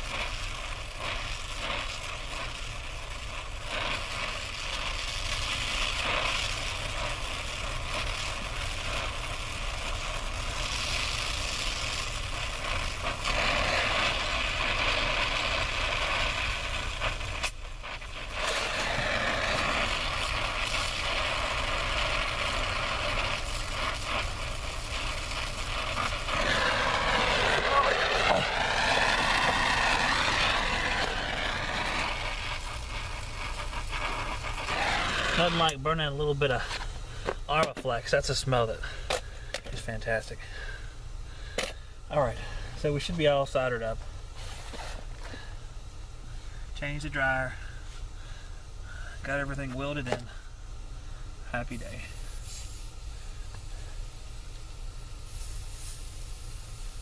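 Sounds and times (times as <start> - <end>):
torch flame hissing: 0.0 - 57.0.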